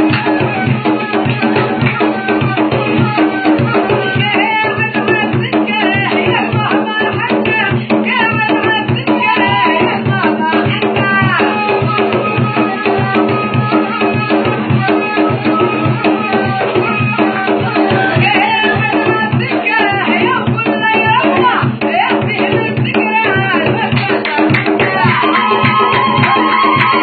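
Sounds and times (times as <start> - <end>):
person singing: 0.0 - 27.0
steady drum beat: 0.0 - 27.0.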